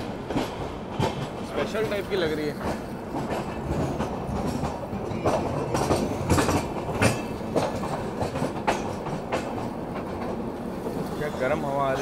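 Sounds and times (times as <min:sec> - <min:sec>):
train rumbling: 0:00.0 - 0:12.0
wheels clacking over rail joints: 0:00.0 - 0:12.0.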